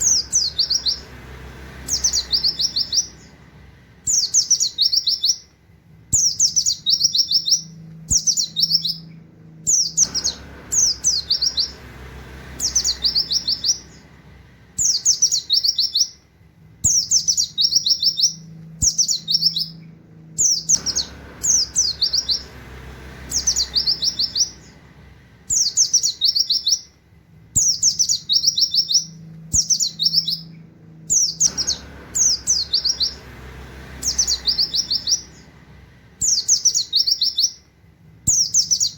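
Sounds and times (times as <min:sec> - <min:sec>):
bird singing high falling notes: 0:00.0 - 0:01.2, 0:01.8 - 0:05.5, 0:06.2 - 0:11.9, 0:12.5 - 0:14.2, 0:14.8 - 0:16.2, 0:16.8 - 0:26.9, 0:27.6 - 0:37.6.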